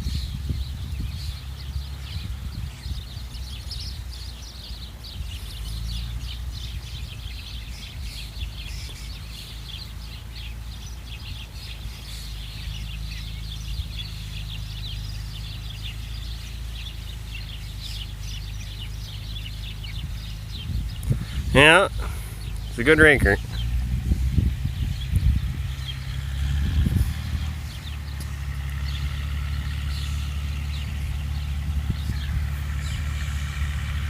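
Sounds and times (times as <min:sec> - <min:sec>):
distant tractor engine drone: 0:00.0 - 0:34.0
small birds chirping: 0:00.0 - 0:34.0.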